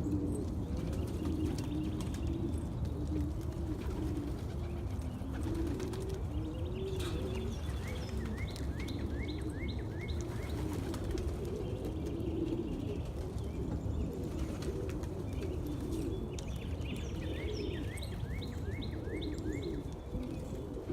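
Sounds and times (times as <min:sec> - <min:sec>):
low wavering bird calls: 0:00.0 - 0:20.9.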